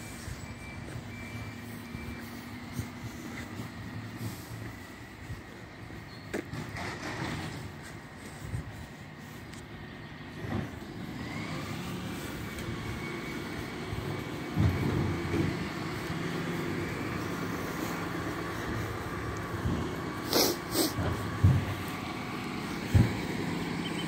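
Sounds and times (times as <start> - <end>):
truck engine driving slowly: 0.0 - 24.0.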